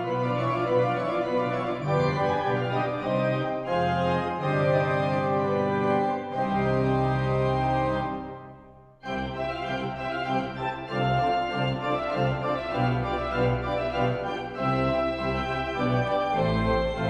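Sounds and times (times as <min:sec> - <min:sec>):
organ music: 0:00.0 - 0:17.0.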